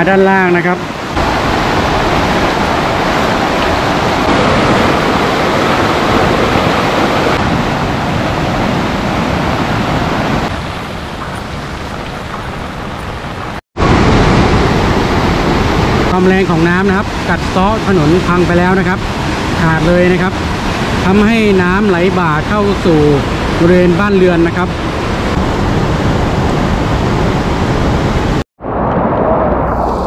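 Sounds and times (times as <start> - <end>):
floodwater rushing: 0.4 - 25.3.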